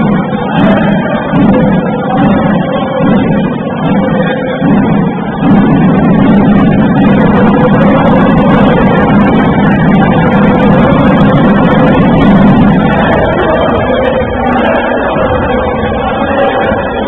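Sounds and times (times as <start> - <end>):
basketball arena din: 0.0 - 17.0.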